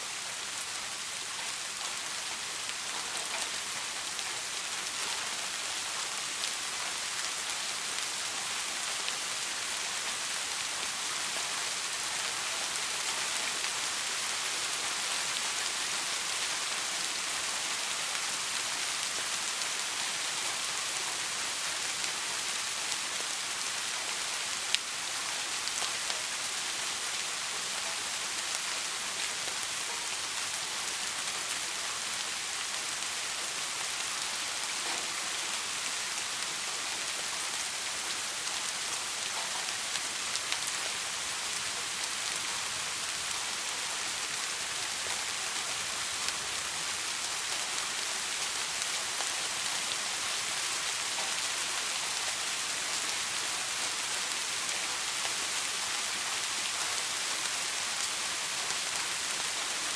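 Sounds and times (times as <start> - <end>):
soft rain falling: 0.0 - 59.9.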